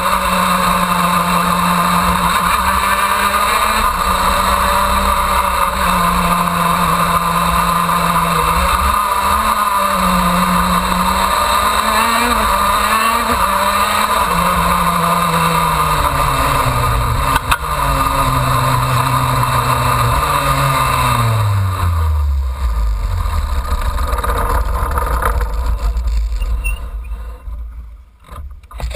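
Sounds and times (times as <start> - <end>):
kart engine running: 0.0 - 28.9.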